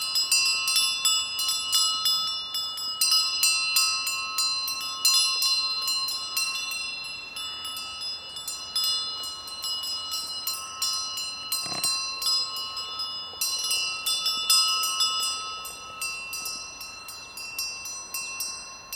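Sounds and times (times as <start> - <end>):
sheep bells clanking: 0.0 - 18.9.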